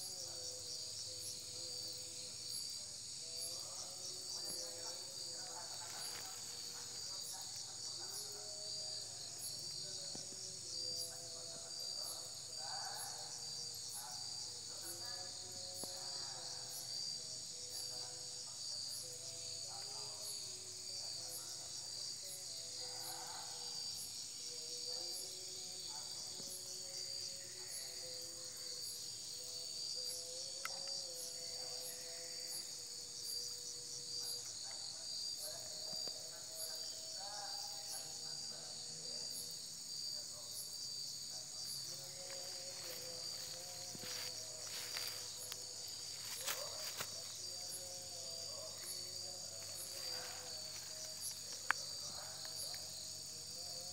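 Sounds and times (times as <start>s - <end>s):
crickets and insects chirring: 0.0s - 53.9s.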